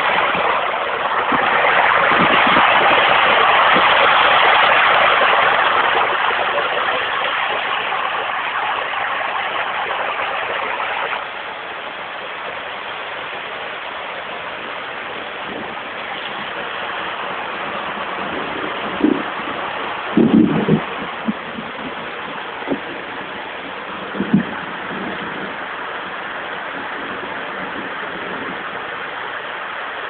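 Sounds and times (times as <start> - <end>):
rain falling: 0.0 - 30.0
rainwater rushing down steps: 0.0 - 30.0.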